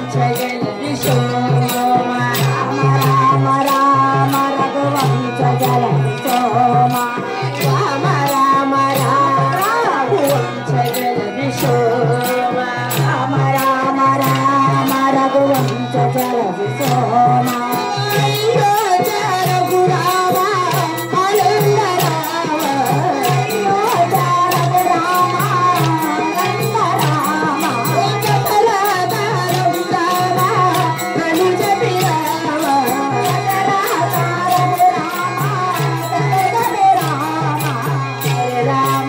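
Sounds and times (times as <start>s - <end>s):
hand drum: 0.0s - 39.0s
person singing folk song: 0.0s - 39.0s.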